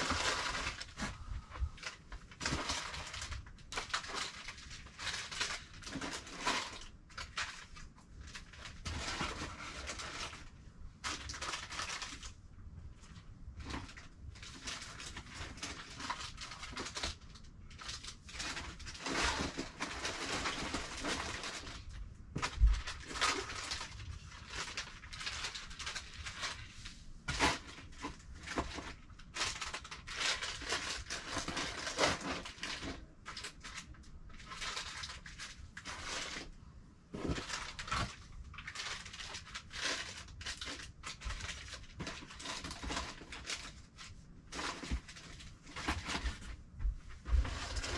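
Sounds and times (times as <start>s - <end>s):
packaging rustling and crinkling: 0.0s - 47.9s.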